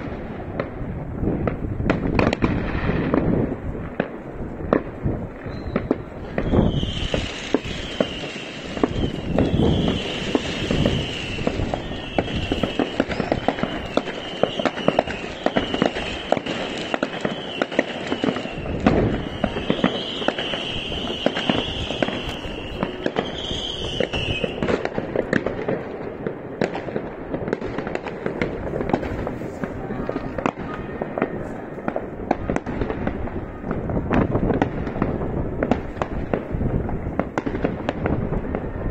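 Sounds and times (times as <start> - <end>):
fireworks and firecrackers bangs: 0.0 - 38.9.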